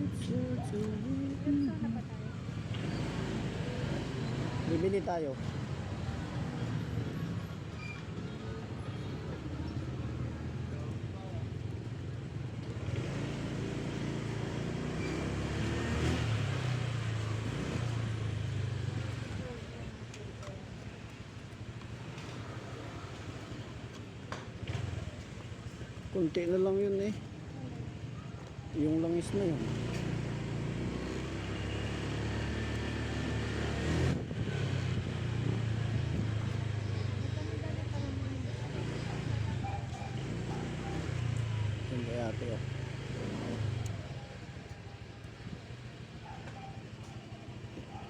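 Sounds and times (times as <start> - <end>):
road noise: 0.0 - 48.0.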